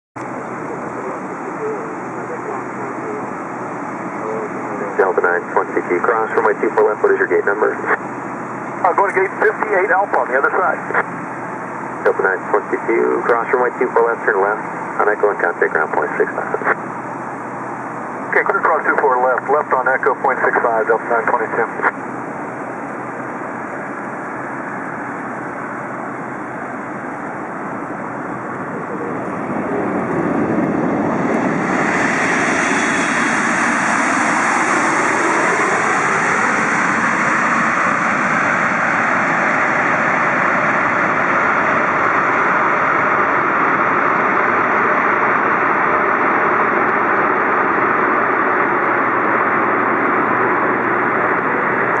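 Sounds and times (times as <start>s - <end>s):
jet engines rushing: 0.2s - 52.0s.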